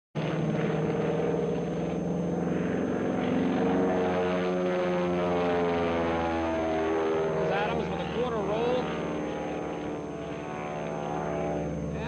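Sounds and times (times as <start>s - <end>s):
propeller plane engine droning: 0.2s - 12.0s.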